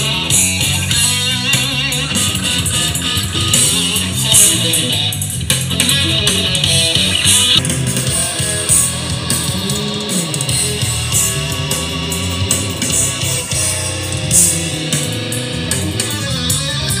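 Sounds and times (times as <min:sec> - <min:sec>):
guitar rock music over a speaker: 0:00.0 - 0:17.0.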